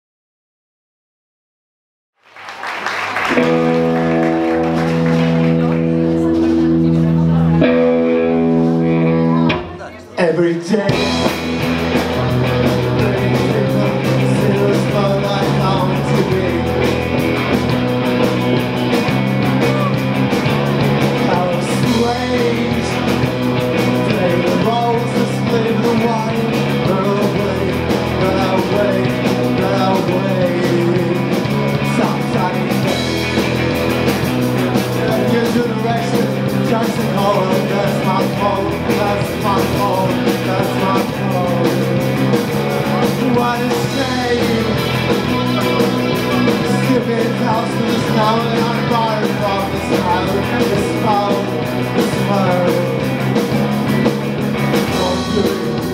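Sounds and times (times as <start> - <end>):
drums: 2.4 - 55.9
electric guitars: 2.7 - 55.9.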